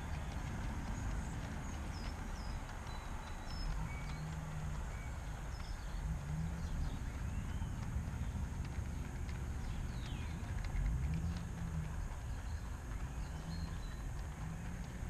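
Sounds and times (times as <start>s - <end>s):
model train rumbling: 0.0s - 15.0s
wheels ticking over rail joints: 0.0s - 15.0s.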